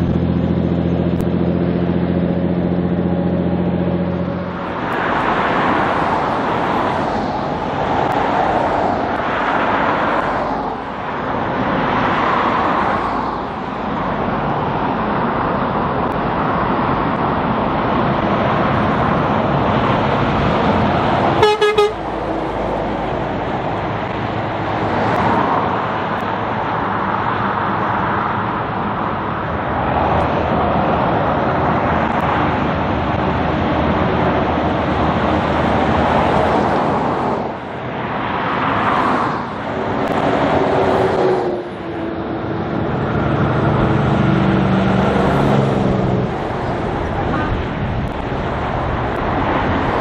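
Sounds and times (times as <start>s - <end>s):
heavy trucks passing on highway: 0.0s - 50.0s.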